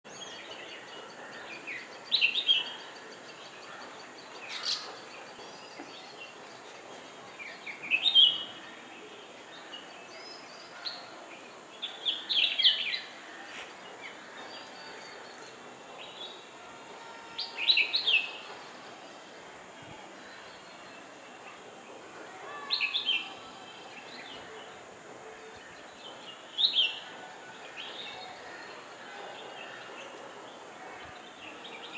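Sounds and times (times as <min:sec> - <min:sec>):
faint background hiss: 0:00.1 - 0:31.9.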